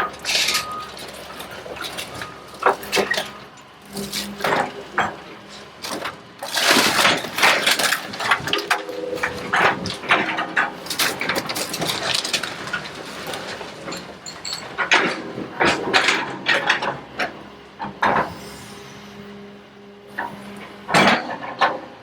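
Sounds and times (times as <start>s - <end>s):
excavator engine hum: 0.0s - 22.0s.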